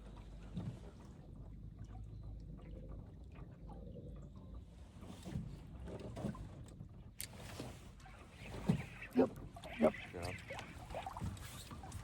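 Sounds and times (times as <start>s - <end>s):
faint water sounds: 0.0s - 12.0s.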